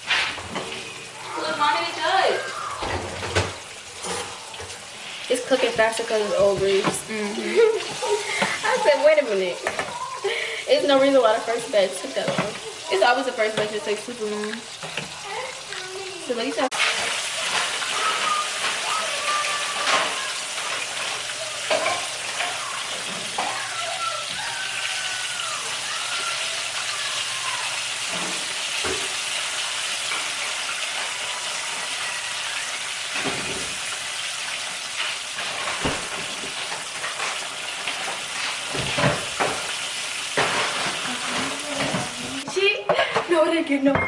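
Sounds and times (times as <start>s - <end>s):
fish sizzling in frying pan: 0.0s - 42.6s.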